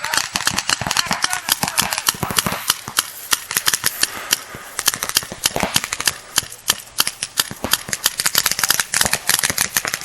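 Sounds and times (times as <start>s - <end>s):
paintball guns firing: 0.0s - 10.0s.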